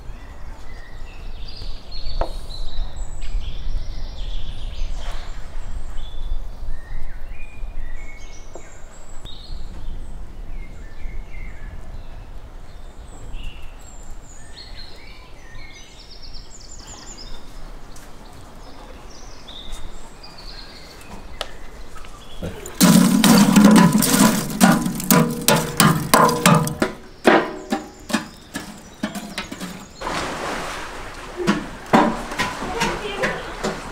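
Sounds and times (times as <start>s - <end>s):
small birds chirping: 0.0s - 22.9s, 24.9s - 30.1s.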